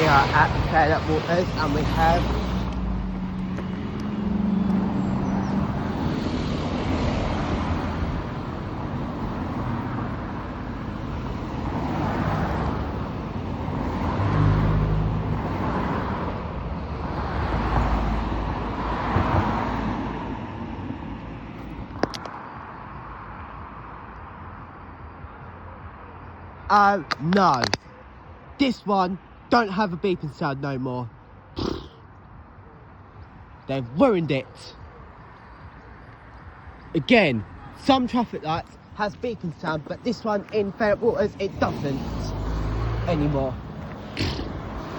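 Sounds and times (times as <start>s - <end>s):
cars passing: 0.0s - 44.9s.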